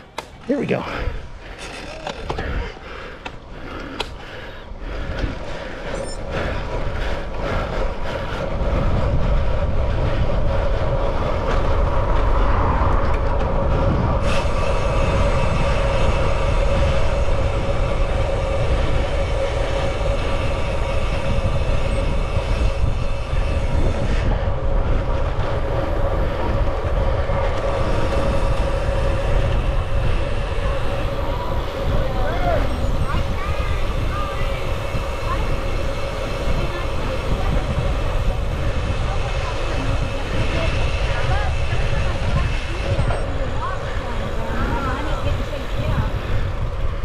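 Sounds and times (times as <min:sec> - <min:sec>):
bicycle tyre and drivetrain noise: 0:00.0 - 0:47.0
steady whine: 0:00.0 - 0:47.0
wind on camera microphone: 0:04.9 - 0:47.0.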